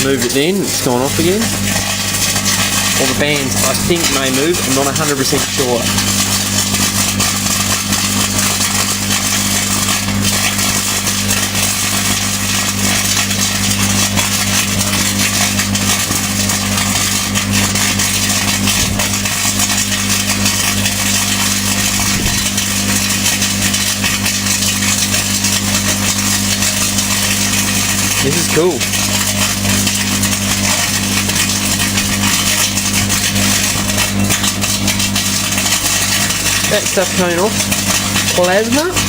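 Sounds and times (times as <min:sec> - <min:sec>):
foil arcing crackling hiss: 0:00.0 - 0:39.0
microwave oven humming: 0:00.0 - 0:39.0.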